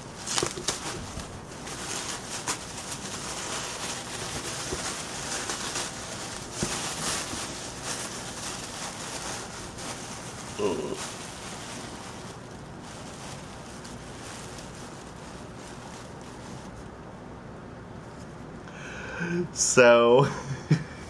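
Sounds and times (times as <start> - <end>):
packaging rustling and crinkling: 0.0 - 17.1.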